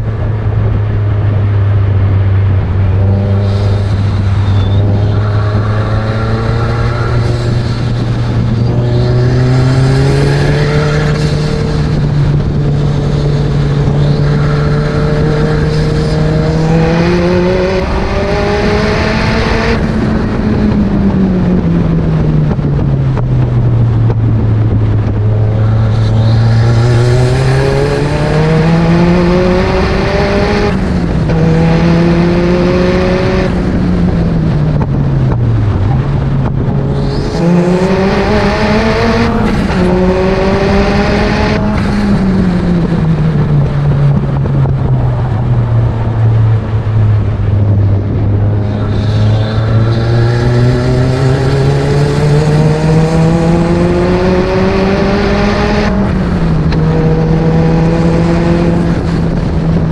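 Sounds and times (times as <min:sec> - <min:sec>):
car engine revving with upshifts: 0:00.0 - 0:59.9
wind and road noise: 0:00.0 - 0:59.9.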